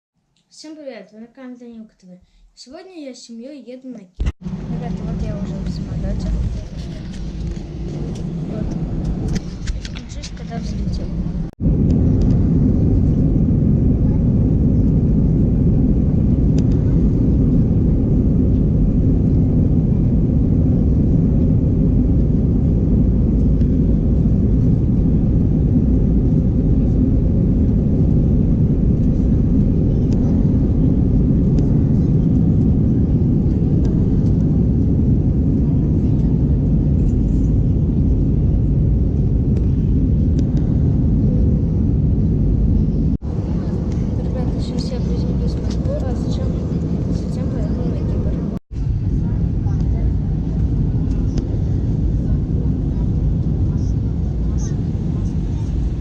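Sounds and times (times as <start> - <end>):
jet engine rumble in cabin: 4.2 - 56.0.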